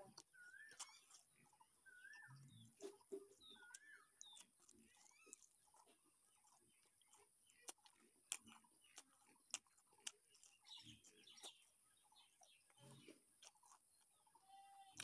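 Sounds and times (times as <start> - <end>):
biting and chewing chicken: 0.0 - 15.0
sharp clicks and crunches: 2.1 - 14.3.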